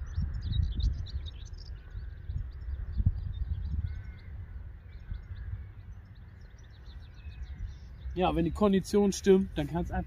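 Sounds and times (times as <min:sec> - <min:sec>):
small birds chirping: 0:00.0 - 0:10.0
wind buffeting microphone: 0:00.0 - 0:10.0.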